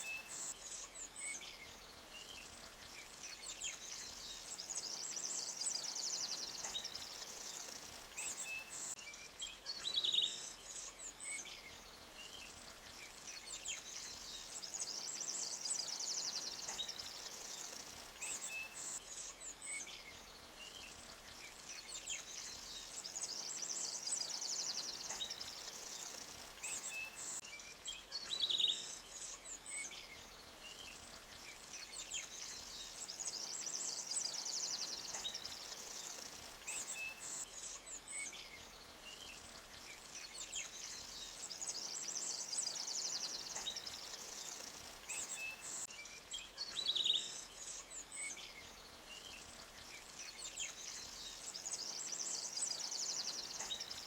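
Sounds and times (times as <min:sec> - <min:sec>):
flowing water hiss: 0:00.0 - 0:09.0, 0:10.0 - 0:54.0
small birds chirping: 0:00.0 - 0:54.0.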